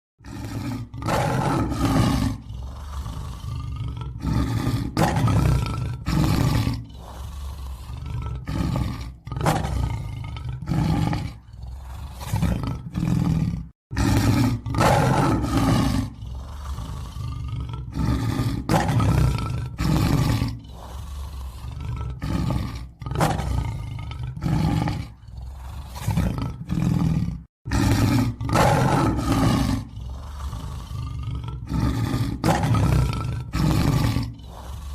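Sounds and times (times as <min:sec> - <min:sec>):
lion roaring and grunting: 0:00.2 - 0:34.9.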